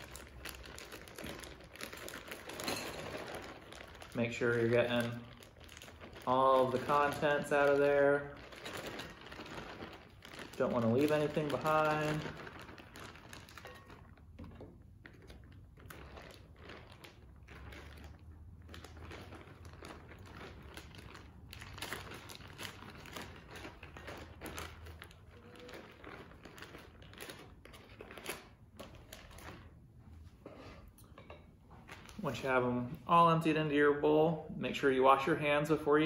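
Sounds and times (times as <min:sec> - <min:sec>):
plastic bag crinkling: 0:00.0 - 0:34.1.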